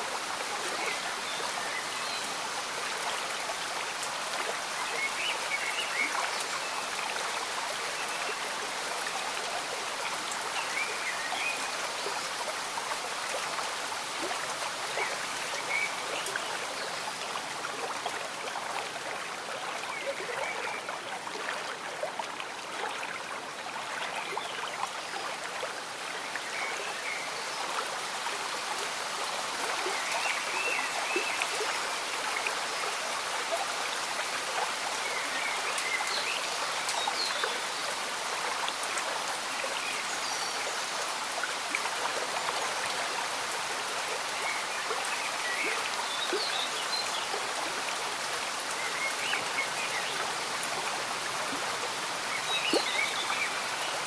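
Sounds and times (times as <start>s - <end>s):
stream bubbling: 0.0s - 54.0s.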